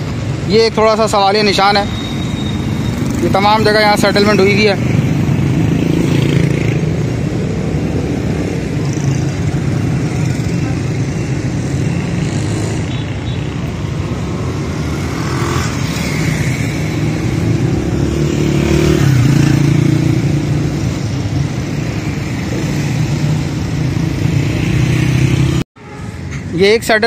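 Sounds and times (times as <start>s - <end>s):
traffic engine hum: 0.0s - 27.0s.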